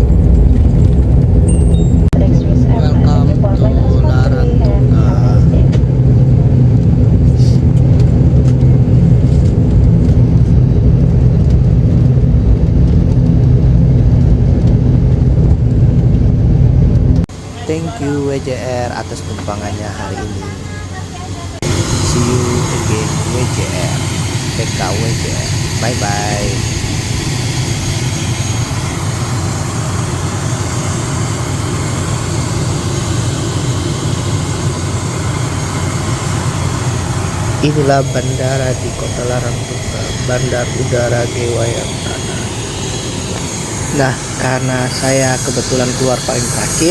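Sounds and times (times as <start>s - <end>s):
turboprop engines droning: 0.0s - 46.9s.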